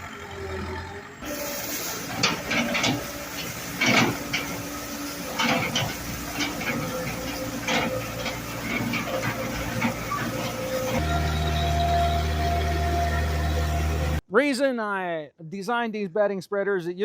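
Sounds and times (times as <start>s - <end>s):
engine and hydraulic hum: 0.0s - 14.2s.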